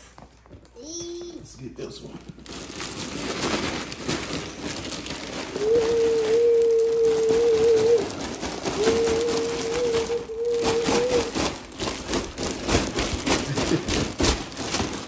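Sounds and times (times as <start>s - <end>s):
plastic packaging crinkling: 1.7s - 15.0s.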